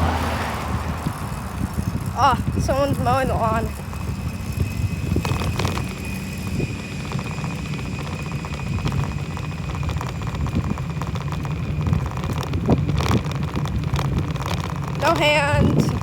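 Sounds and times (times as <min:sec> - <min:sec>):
lawn mower engine running: 0:00.0 - 0:16.0
wind on microphone: 0:00.0 - 0:16.0.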